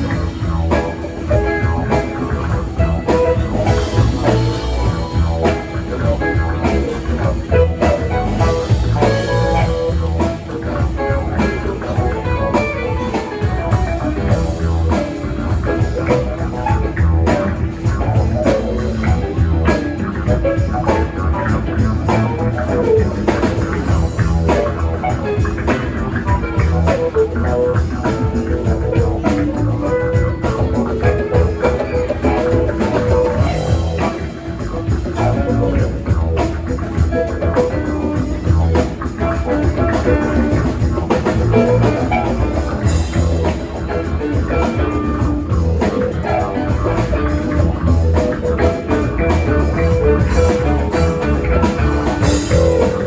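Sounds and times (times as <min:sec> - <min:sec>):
bass: 0:00.0 - 0:53.0
drum kit: 0:00.0 - 0:53.0
electric guitar: 0:00.0 - 0:53.0.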